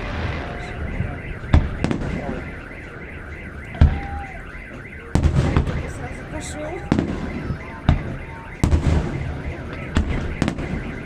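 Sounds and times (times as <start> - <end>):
electronic alarm siren warbling: 0.0 - 11.0
fireworks bangs: 0.0 - 11.0.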